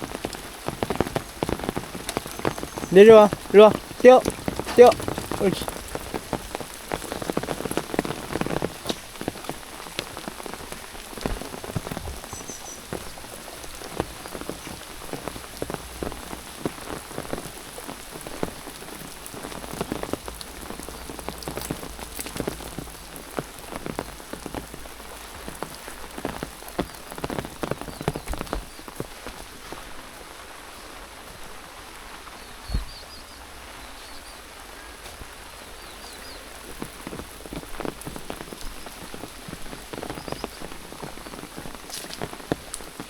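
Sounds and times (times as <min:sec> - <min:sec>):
raindrops tapping close: 0:00.0 - 0:33.4, 0:34.1 - 0:43.0
steady rain falling: 0:00.0 - 0:43.0.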